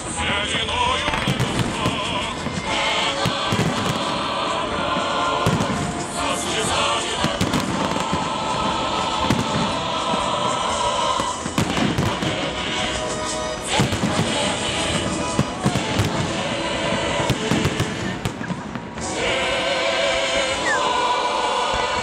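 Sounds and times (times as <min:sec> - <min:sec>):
fireworks crackling: 0:00.0 - 0:22.0
music playing: 0:00.0 - 0:22.0
fireworks shells bursting: 0:00.9 - 0:19.3.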